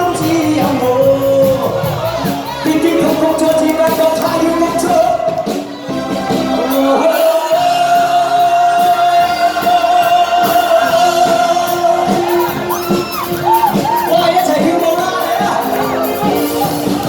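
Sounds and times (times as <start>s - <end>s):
person singing: 0.0s - 17.0s
pop backing track: 0.0s - 17.0s.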